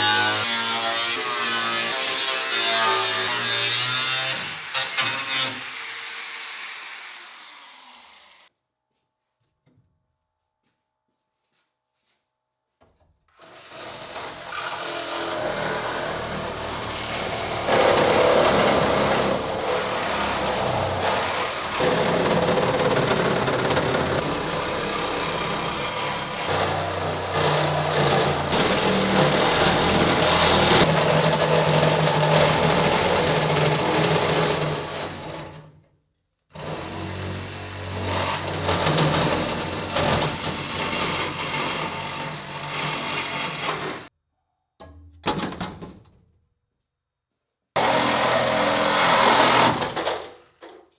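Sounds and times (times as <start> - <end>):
power tool cutting sheet steel: 0.0 - 8.5, 13.4 - 35.6, 36.6 - 44.1, 47.8 - 50.4.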